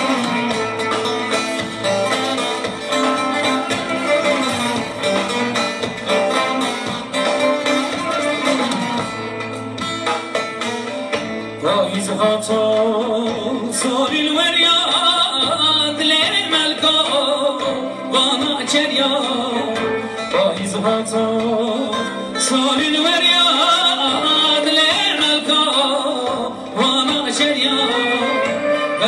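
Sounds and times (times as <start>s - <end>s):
live band with saz and drums: 0.0s - 29.0s.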